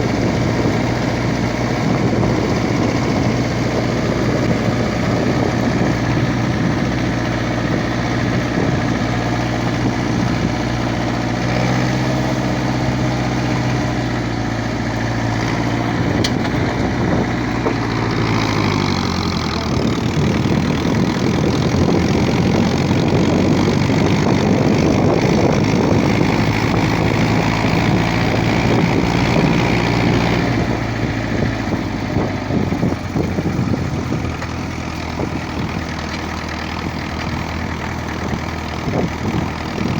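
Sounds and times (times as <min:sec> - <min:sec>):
old tractor engine running: 0:00.0 - 0:39.9.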